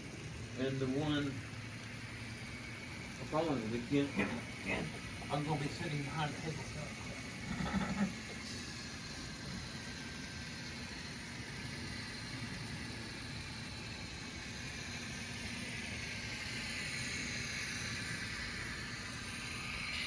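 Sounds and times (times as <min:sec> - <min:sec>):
model train running: 0:00.0 - 0:20.0.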